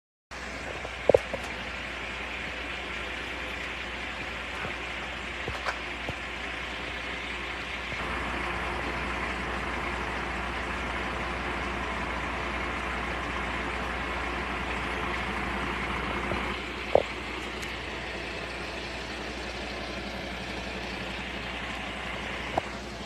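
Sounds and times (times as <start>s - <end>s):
truck engine idling: 0.3s - 23.0s.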